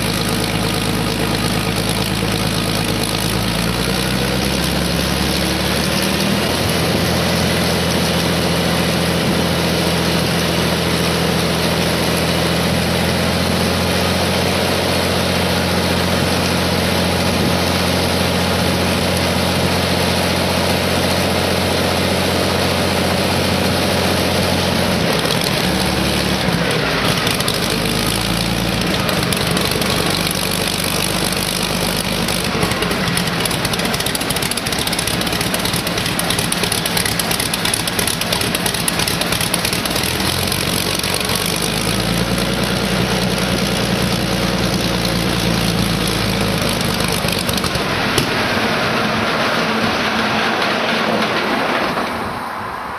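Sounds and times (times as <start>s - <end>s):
aero engine running: 0.0s - 52.9s.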